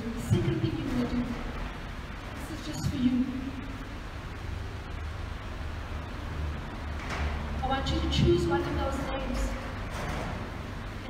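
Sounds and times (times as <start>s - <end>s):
room tone hiss and hum: 0.0s - 11.0s.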